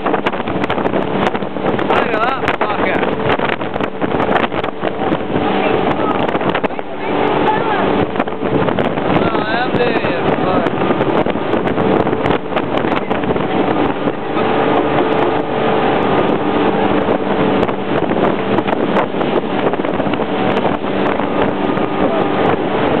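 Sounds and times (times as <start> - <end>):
motorboat engine drone: 0.0 - 23.0
water rushing: 0.0 - 23.0
wind buffeting the microphone: 0.0 - 23.0.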